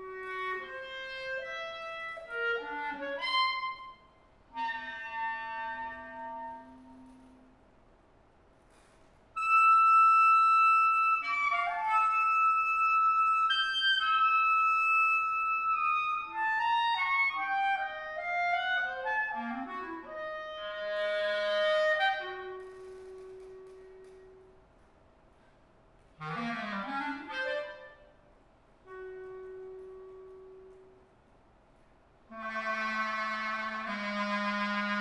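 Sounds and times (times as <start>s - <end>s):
solo clarinet playing: 0.0s - 7.6s, 9.4s - 24.8s, 26.2s - 31.1s, 32.3s - 35.0s.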